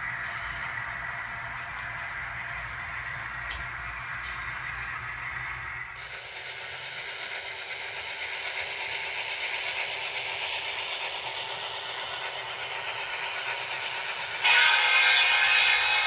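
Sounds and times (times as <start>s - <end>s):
model train whirring on rails: 0.0s - 16.0s.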